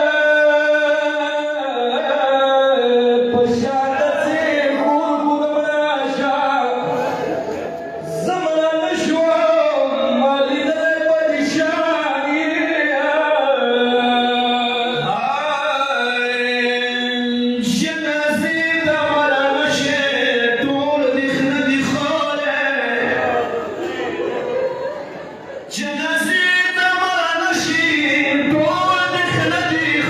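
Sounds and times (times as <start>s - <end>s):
man chanting: 0.0s - 23.7s, 25.7s - 30.0s.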